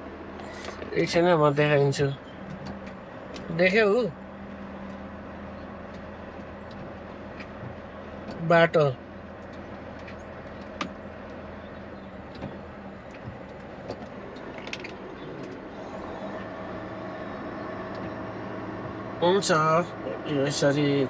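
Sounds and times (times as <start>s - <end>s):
road noise: 0.0s - 21.0s
truck engine running: 0.0s - 21.0s.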